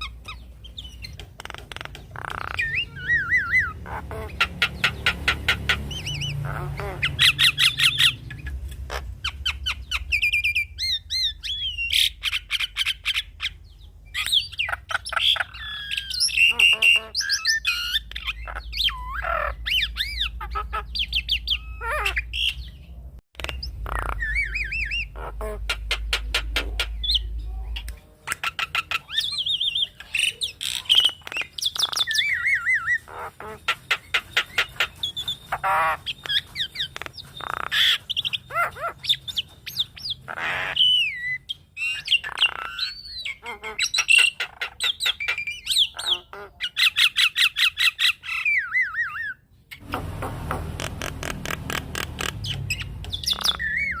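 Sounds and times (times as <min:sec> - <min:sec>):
bird singing varied calls: 0:00.0 - 0:54.0.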